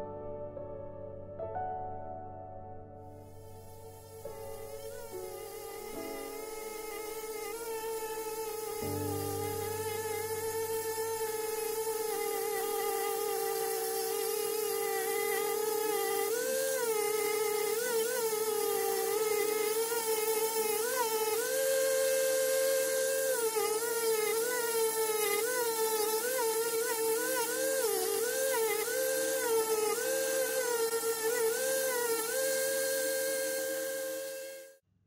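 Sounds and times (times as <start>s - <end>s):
rotary tool whining: 3.5s - 34.8s.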